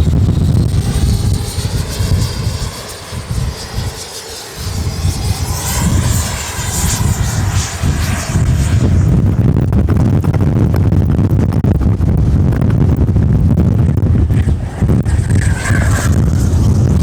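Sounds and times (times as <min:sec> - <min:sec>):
electric ducted fan whining: 0:00.0 - 0:17.0
wind buffeting microphone: 0:00.0 - 0:17.0.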